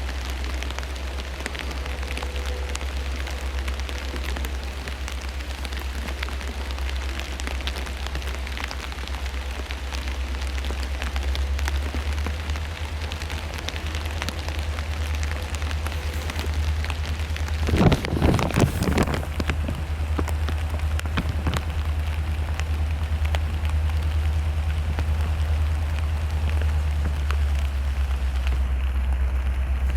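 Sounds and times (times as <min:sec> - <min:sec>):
heavy rain: 0:00.0 - 0:29.9
low rumble: 0:00.0 - 0:29.9
raindrops ticking: 0:00.0 - 0:29.9.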